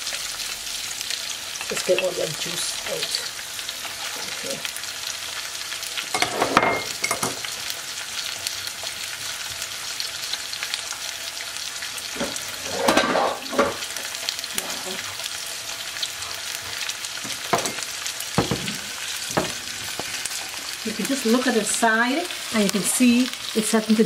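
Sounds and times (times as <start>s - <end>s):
fish sizzling in a skillet: 0.0s - 24.0s.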